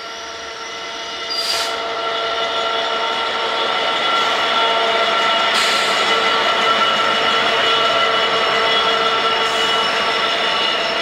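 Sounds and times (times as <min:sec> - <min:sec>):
diesel locomotive passing: 0:00.0 - 0:11.0.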